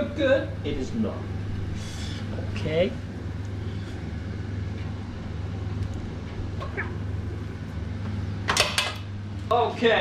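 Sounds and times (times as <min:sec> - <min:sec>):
oven convection fan humming: 0:00.0 - 0:10.0.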